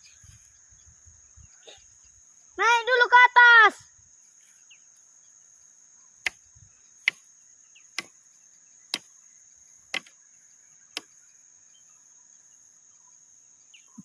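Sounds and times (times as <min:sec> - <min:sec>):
forest insects droning: 0:00.0 - 0:14.0.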